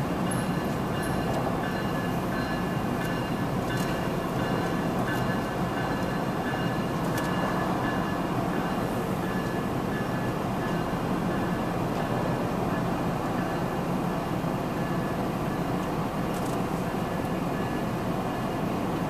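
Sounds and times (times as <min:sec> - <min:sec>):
diesel locomotive engines rumbling: 0:00.0 - 0:19.0
train wheels on rails: 0:00.0 - 0:19.0.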